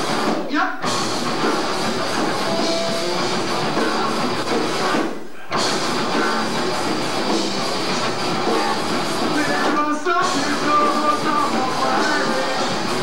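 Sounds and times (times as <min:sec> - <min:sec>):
electric guitar: 0:00.0 - 0:13.0
live rock band playing: 0:00.0 - 0:13.0.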